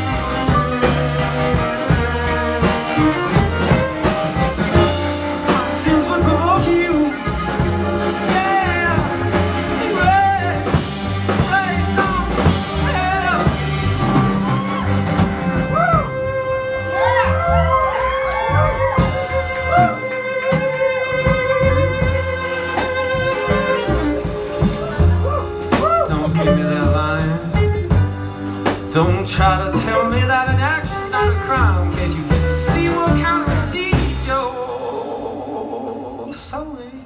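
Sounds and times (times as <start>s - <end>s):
sliding lead melody: 0.0s - 36.2s
bass line: 0.0s - 36.7s.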